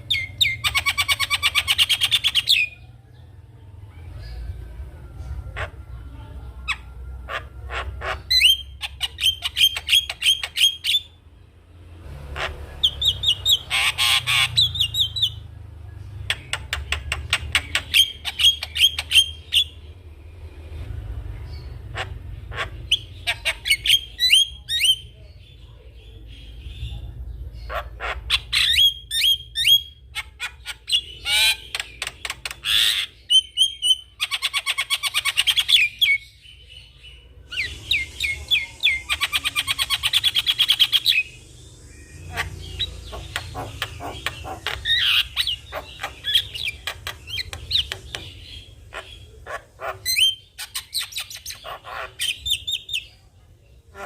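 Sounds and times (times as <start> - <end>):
myna bird singing: 0.0 - 54.0.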